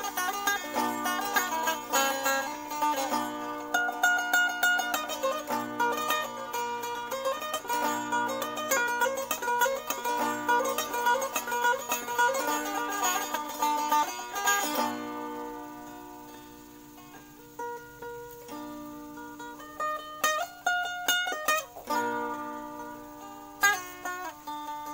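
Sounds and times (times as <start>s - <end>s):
plucked lute melody with drone: 0.0s - 24.9s.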